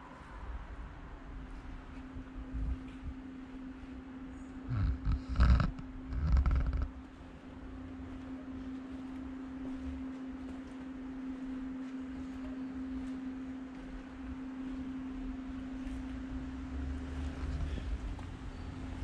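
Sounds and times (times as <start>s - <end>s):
low uneven rumble: 0.0s - 19.0s
steady locomotive hum: 0.0s - 19.0s.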